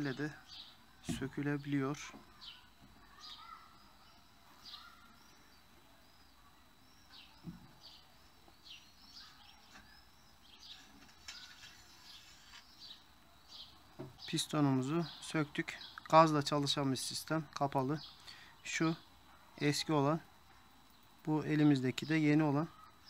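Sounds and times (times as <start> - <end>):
faint small bird chirping: 0.0 - 23.0.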